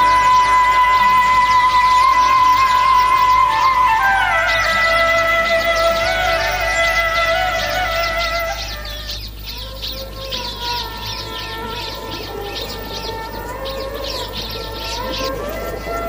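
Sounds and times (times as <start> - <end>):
melody on long held notes: 0.0 - 16.0
small birds twittering: 0.0 - 16.0.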